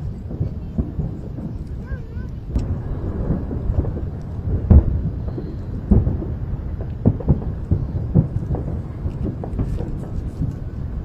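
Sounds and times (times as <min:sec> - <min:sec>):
fireworks booming: 0:00.0 - 0:11.0
steady low rumble: 0:00.0 - 0:11.0.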